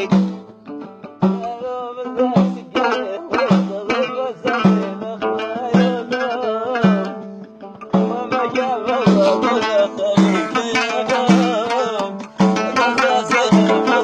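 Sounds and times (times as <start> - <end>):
plucked lute melody: 0.0 - 14.0.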